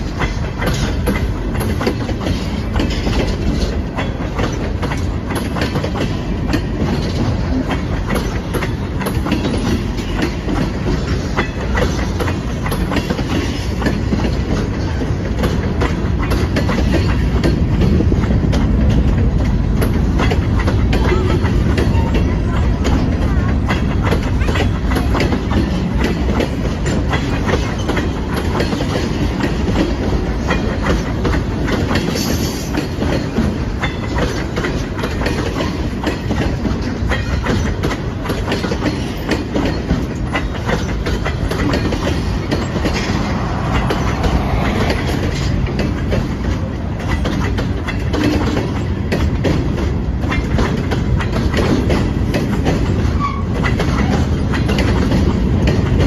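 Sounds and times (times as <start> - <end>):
train wheels clicking over rails: 0.0 - 56.0.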